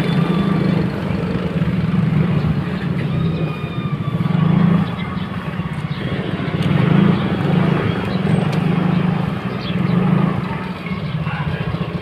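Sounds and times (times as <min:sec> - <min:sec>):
small motorcycle engine: 0:00.0 - 0:12.0.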